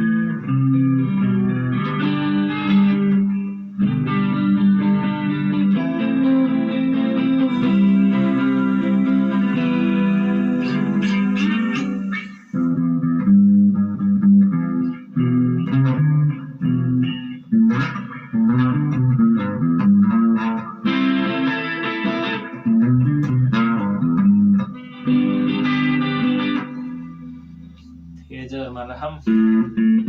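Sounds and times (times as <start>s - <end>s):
electric guitar with chorus effect: 0.0s - 30.0s.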